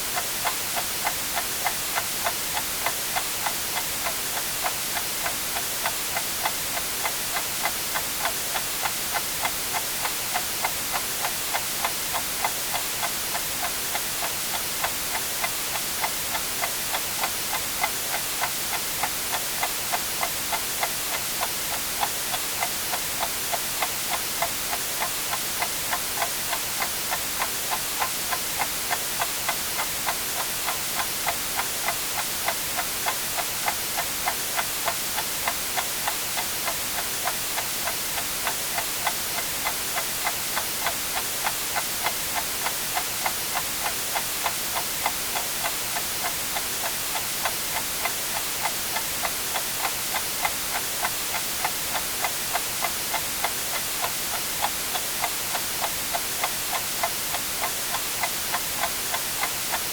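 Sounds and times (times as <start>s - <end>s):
white noise hiss: 0.0s - 59.9s
clock ticking: 0.2s - 59.9s.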